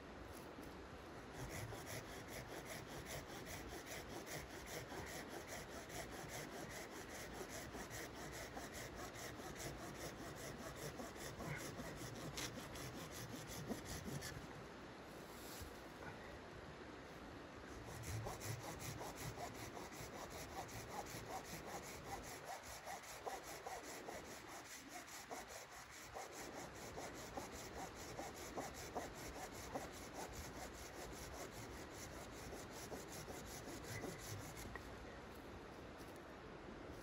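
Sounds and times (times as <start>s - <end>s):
pruning saw cutting log: 1.3s - 14.4s, 17.9s - 34.7s.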